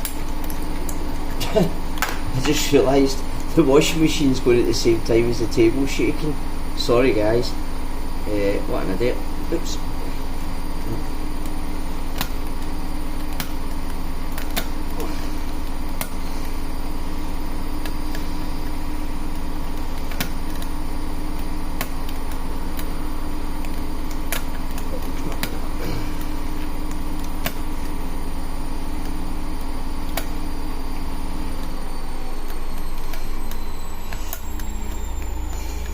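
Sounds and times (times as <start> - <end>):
washing machine humming: 0.0 - 35.9.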